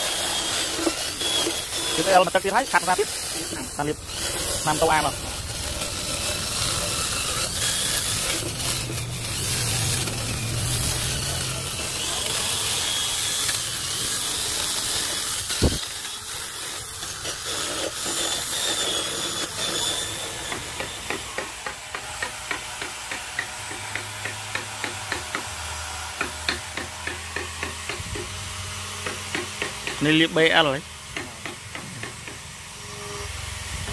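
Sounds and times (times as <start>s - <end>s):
rotary sander on wood: 0.0s - 33.9s.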